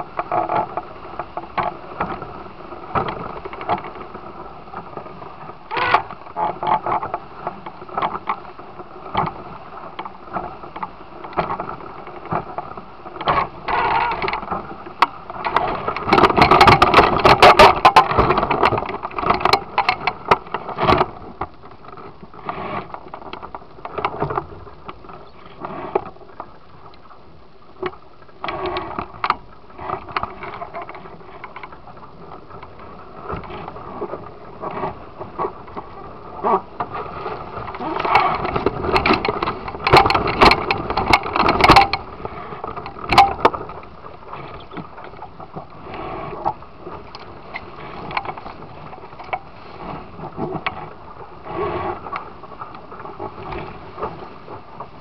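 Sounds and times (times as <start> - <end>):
water slapping against hull: 0.0 - 55.0.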